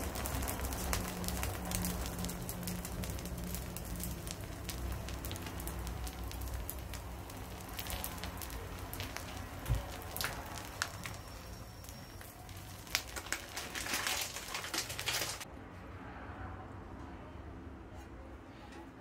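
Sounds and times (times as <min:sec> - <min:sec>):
batter sizzling on a hot griddle: 0:00.0 - 0:15.5.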